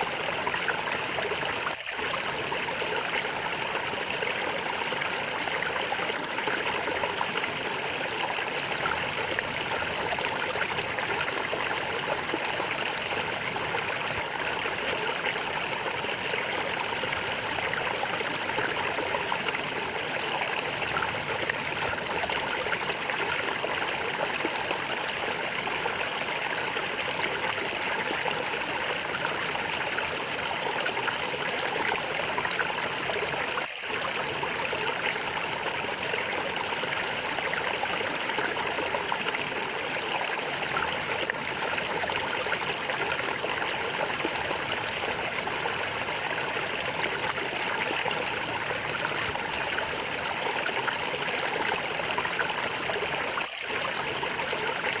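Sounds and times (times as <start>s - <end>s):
stream water gurgling over stones: 0.0s - 55.0s.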